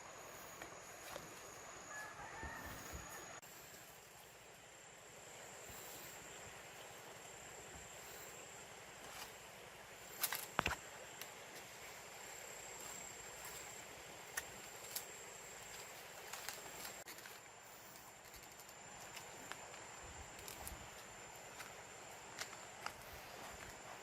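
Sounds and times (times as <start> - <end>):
high thin insect tone: 0.0 - 24.0.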